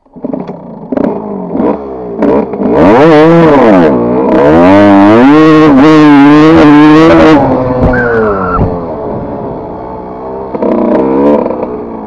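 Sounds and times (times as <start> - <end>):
dirt bike engine revving: 0.2 - 12.0.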